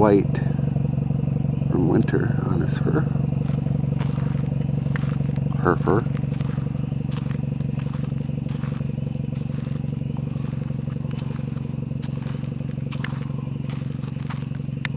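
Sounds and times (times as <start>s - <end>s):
vehicle engine idling: 0.0s - 14.9s.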